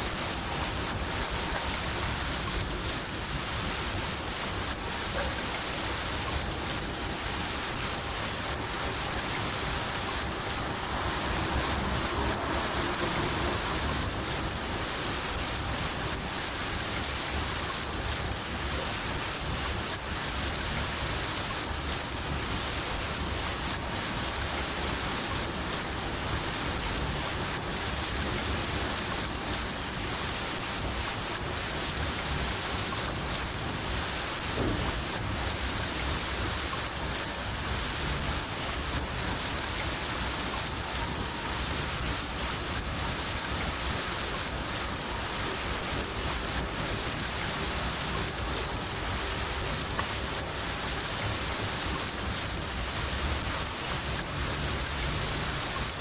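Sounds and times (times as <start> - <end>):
cricket chirping: 0.0 - 56.0
steady rain: 0.0 - 56.0.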